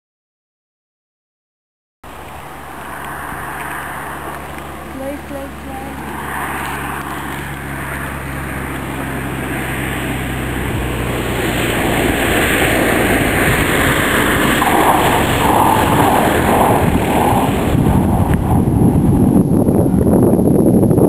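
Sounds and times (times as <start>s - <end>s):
airplane engine droning: 2.0s - 21.0s
rushing noise: 2.1s - 21.0s.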